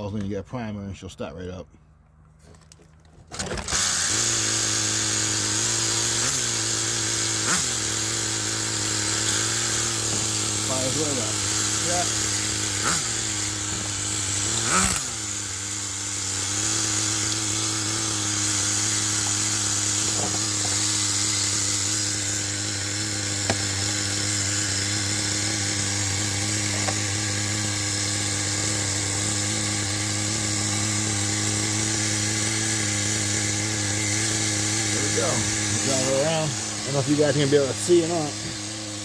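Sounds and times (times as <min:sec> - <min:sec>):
small nitro engine idling: 0:03.3 - 0:39.0
engine revving: 0:03.4 - 0:39.0.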